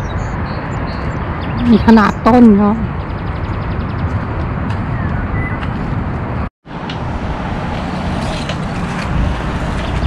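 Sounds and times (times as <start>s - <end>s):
outdoor rumble: 0.0s - 10.0s.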